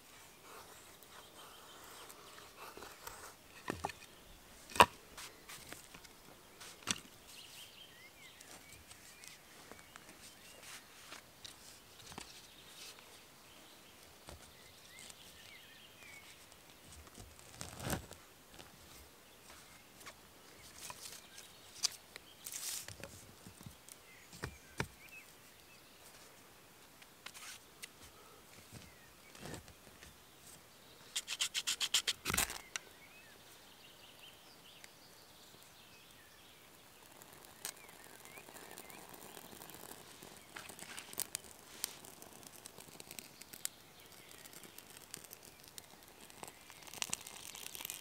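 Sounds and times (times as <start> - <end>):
twigs rustling: 0.0 - 25.4, 34.8 - 48.0.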